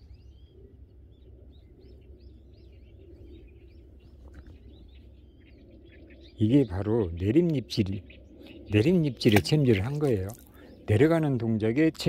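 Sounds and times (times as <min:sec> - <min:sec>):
low background rumble: 0:00.0 - 0:12.0
small birds chirping: 0:00.0 - 0:12.0.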